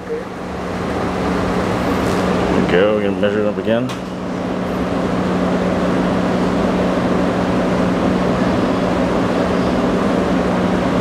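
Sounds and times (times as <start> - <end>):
fan drone: 0.0 - 11.0.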